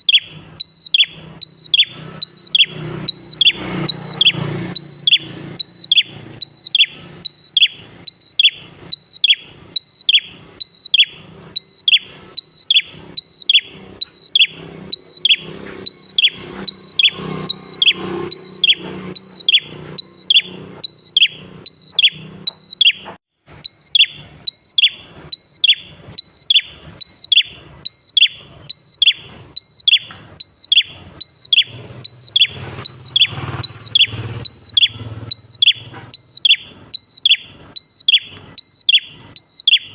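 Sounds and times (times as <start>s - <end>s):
bird whistling falling calls: 0.0s - 39.9s.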